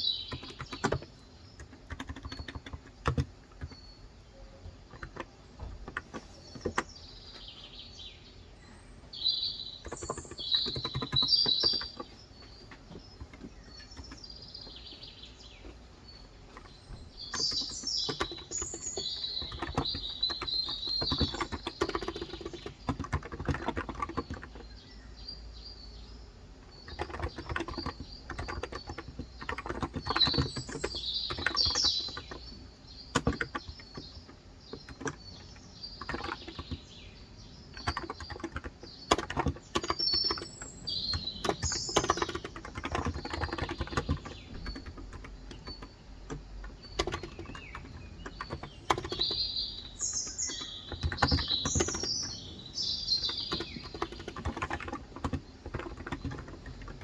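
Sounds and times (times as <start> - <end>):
keyboard typing: 0.0 - 3.9, 4.6 - 7.5, 9.6 - 24.8, 26.6 - 37.0, 37.7 - 57.0
birds chirping: 0.0 - 57.0.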